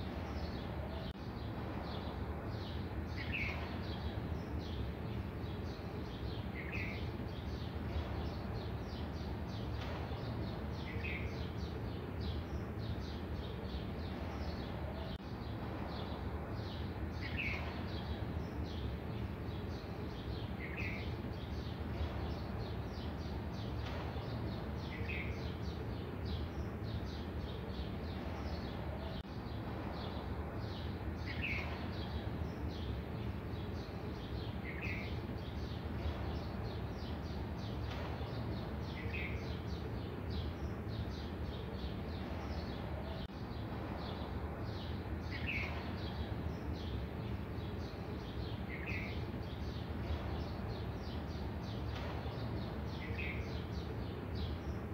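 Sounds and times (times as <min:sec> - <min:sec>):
low background noise: 0:00.0 - 0:54.9
bird chirping: 0:00.1 - 0:54.9.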